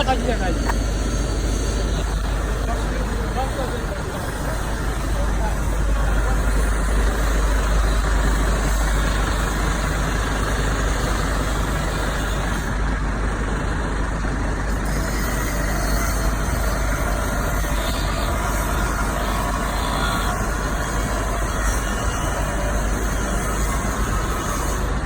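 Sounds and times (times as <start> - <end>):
road traffic: 0.0 - 25.0
vehicles idling: 0.0 - 25.0.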